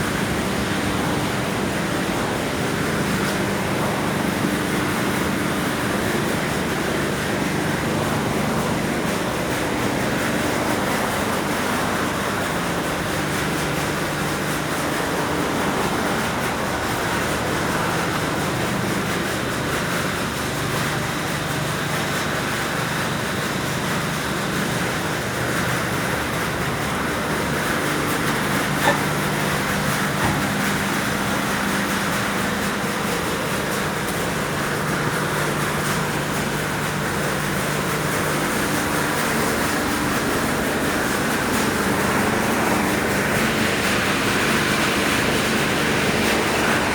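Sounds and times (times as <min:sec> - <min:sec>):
engine droning: 0:00.0 - 0:46.9.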